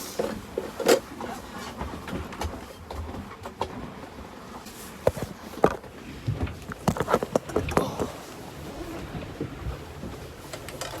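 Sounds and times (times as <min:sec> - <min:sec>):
water rushing past boat: 0:00.0 - 0:11.0.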